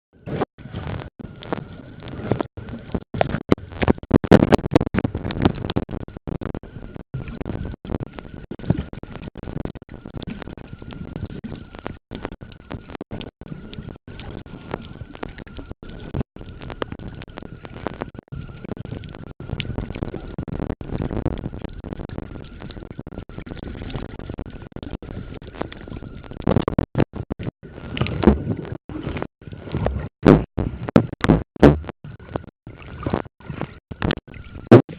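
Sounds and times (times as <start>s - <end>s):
faint steady whine: 0.2s - 34.9s.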